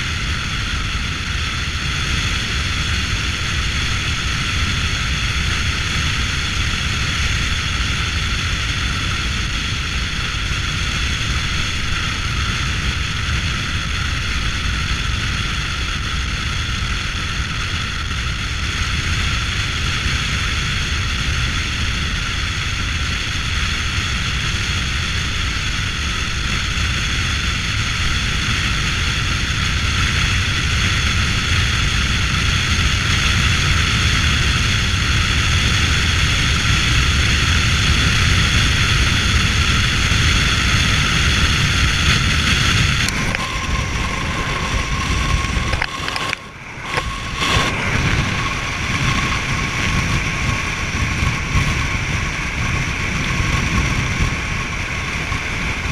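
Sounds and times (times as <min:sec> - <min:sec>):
road and wind noise: 0:00.0 - 0:55.9.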